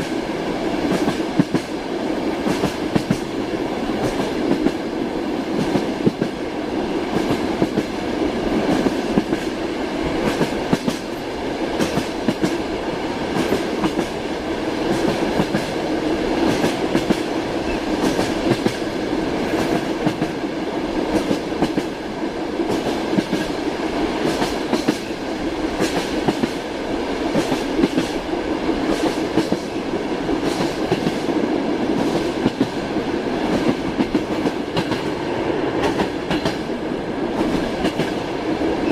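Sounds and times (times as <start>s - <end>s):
train rolling rumble: 0.0s - 38.9s
train wheels clacking on rail joints: 0.8s - 1.8s, 2.4s - 3.4s, 4.0s - 4.9s, 5.5s - 6.4s, 7.1s - 11.2s, 11.8s - 14.2s, 14.8s - 20.4s, 21.1s - 22.0s, 22.6s - 23.6s, 24.2s - 26.6s, 27.3s - 36.7s, 37.3s - 38.9s.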